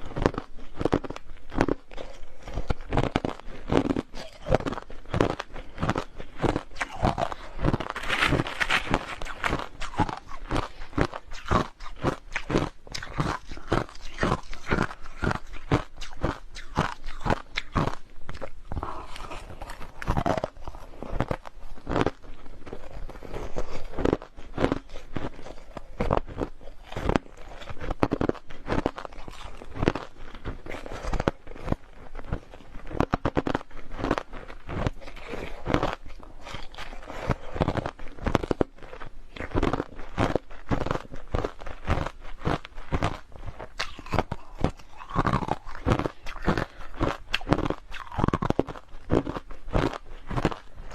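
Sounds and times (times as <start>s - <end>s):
crushed ice being chewed: 0.0s - 50.9s.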